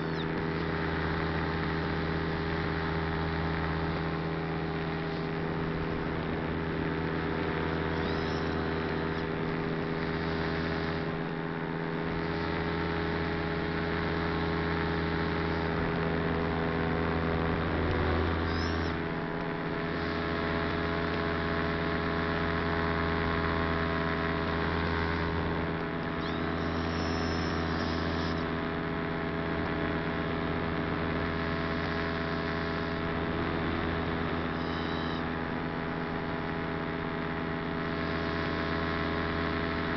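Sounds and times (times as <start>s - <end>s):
electric motors and propellers humming: 0.0s - 39.9s.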